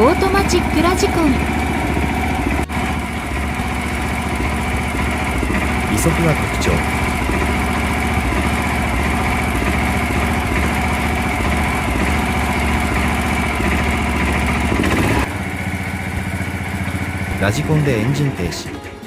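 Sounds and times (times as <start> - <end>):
crane engine running: 0.0 - 19.0.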